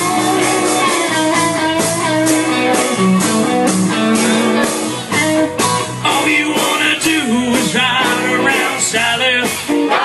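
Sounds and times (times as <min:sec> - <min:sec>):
electric guitar: 0:00.0 - 0:10.0
live band playing: 0:00.0 - 0:10.0
steady drum beat: 0:00.0 - 0:10.0.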